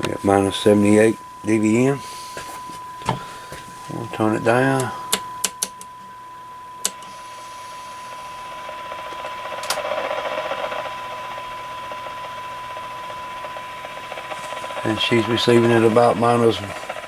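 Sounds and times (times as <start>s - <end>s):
radio receiver hiss: 0.0s - 5.4s, 6.8s - 12.2s, 12.8s - 17.0s
steady test tone from speaker: 0.0s - 17.0s.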